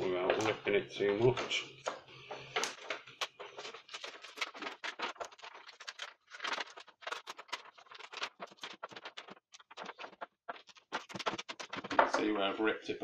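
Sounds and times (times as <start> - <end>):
plastic sheet peeled off tape crackling: 1.3 - 12.3.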